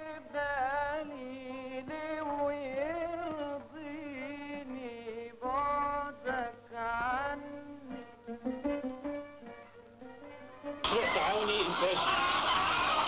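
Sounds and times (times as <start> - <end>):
accompanying music: 0.0 - 13.0.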